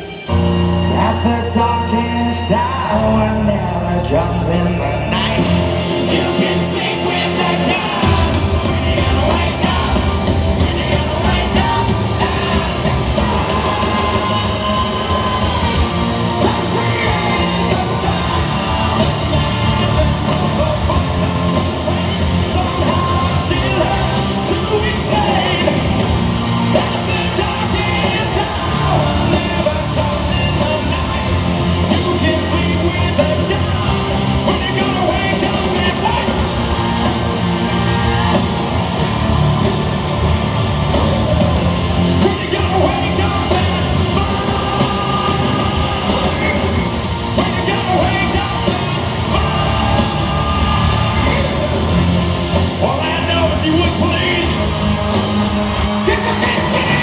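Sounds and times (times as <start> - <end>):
live hard rock band: 0.0 - 57.0
person singing: 0.8 - 38.7, 40.8 - 54.8, 55.8 - 57.0.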